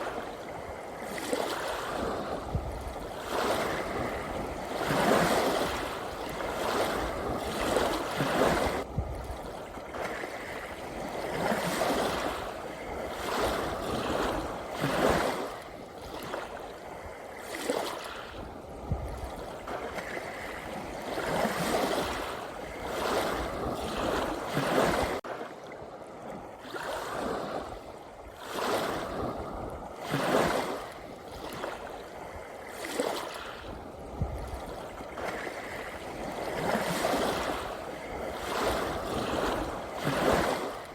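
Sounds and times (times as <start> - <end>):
small sea waves washing in: 0.0 - 40.9.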